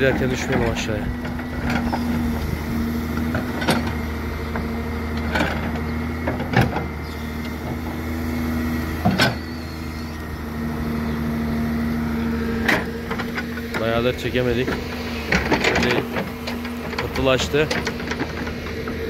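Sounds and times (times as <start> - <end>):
digging machine engine running: 0.0 - 19.0.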